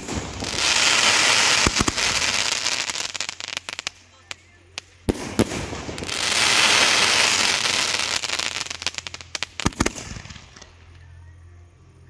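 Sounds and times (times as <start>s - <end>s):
firework shells bursting: 0.0s - 4.0s, 4.8s - 10.9s
firework crackling: 0.0s - 11.1s.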